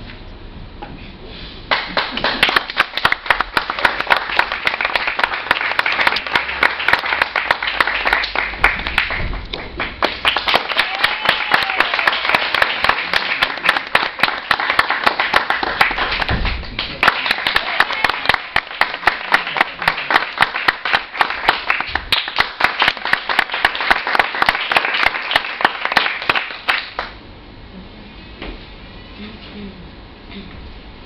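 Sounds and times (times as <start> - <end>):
audience applause: 1.7 - 27.2.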